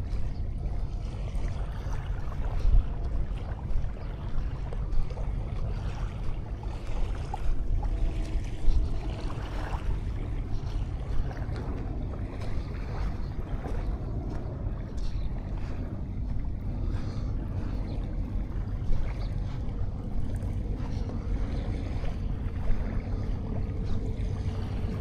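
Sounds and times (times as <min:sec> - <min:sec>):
waves washing on beach: 0:00.0 - 0:25.0
wind rumble on microphone: 0:00.0 - 0:25.0.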